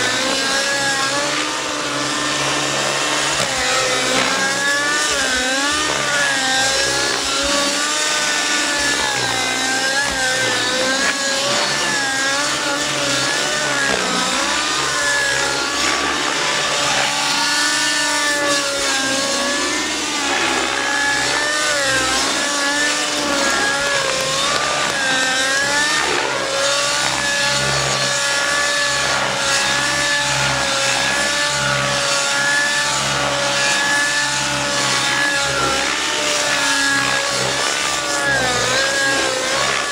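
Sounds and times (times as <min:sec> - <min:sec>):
rc helicopter engine and rotor: 0:00.0 - 0:39.9.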